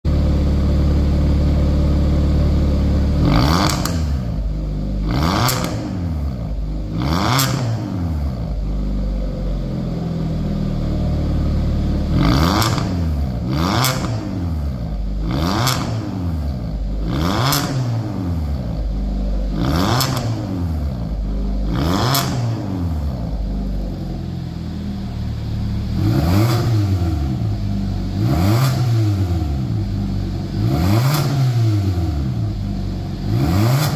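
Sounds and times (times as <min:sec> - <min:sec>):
car engine revving: 0:00.1 - 0:33.9.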